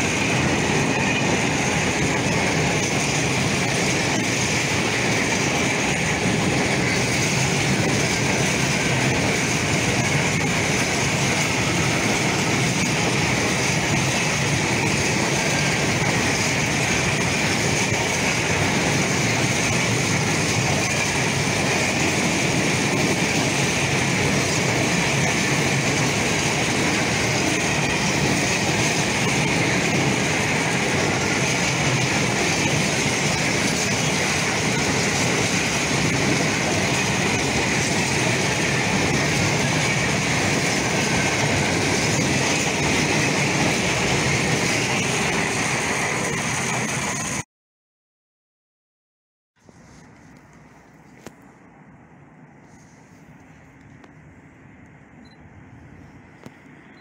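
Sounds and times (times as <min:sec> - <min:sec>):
train wheels on rails: 0:00.0 - 0:47.4, 0:49.6 - 0:57.0.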